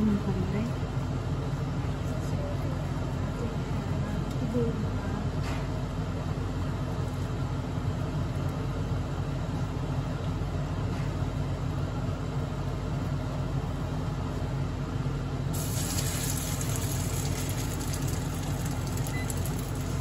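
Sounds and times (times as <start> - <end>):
kitchen fan humming: 0.0 - 20.0.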